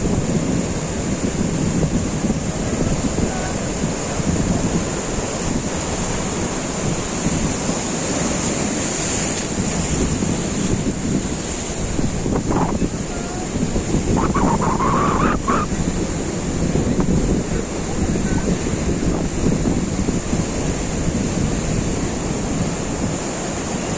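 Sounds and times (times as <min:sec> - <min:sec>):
waves breaking on beach: 0:00.0 - 0:23.9
wind buffeting microphone: 0:00.0 - 0:23.9.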